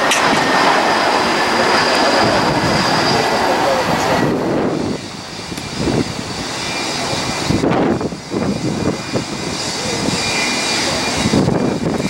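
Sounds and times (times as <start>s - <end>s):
jet engines with high whine: 0.0s - 12.0s.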